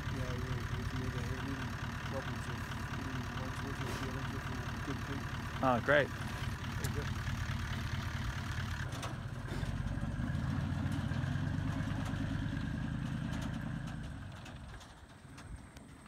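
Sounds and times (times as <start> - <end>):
truck engine idling and pulling away: 0.0 - 16.0.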